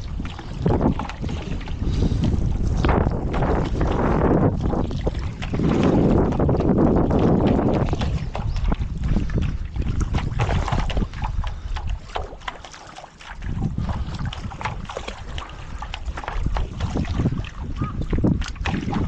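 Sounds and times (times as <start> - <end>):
paddle strokes splashing water: 0.0 - 19.0
wind buffeting microphone: 0.0 - 19.0.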